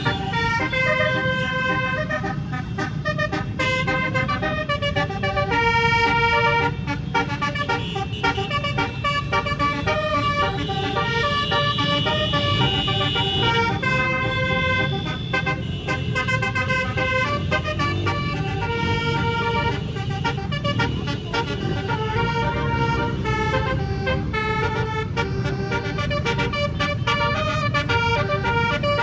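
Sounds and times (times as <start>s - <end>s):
musical air horn playing tune: 0.0s - 29.0s.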